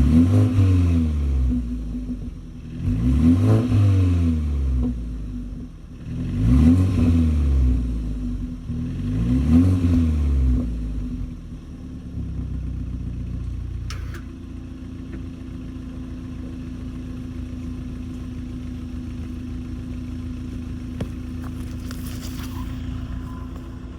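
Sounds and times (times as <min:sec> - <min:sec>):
car engine revving and idling: 0:00.0 - 0:23.9.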